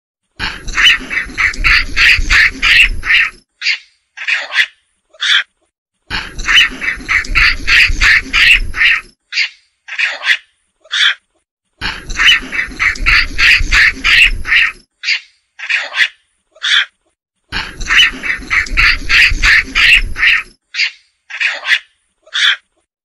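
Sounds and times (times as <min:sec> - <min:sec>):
monkey chattering calls: 0:00.4 - 0:05.5, 0:06.2 - 0:11.2, 0:11.8 - 0:16.9, 0:17.6 - 0:22.6.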